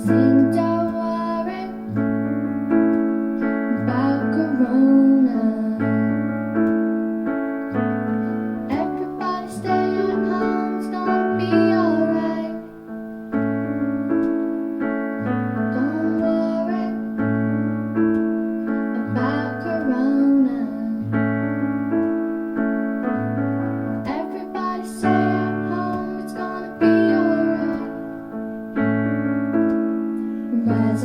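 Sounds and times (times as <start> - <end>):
electric piano music: 0.0 - 31.0.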